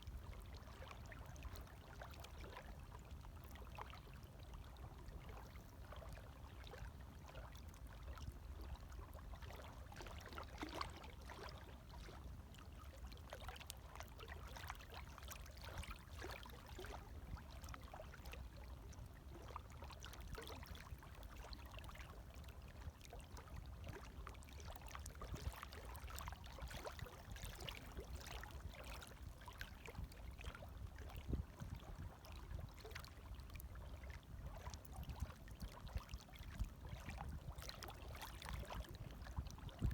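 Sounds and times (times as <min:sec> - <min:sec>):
small waves lapping: 0:07.4 - 0:39.9.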